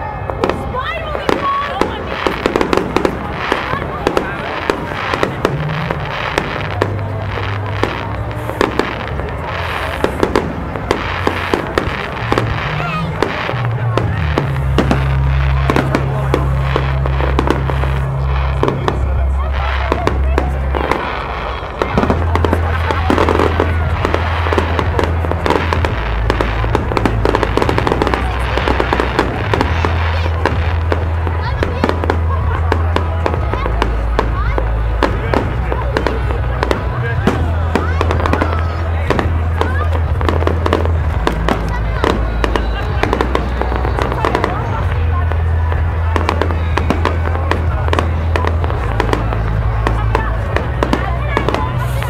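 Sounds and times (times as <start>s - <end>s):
fireworks crackling and popping: 0.0s - 52.0s.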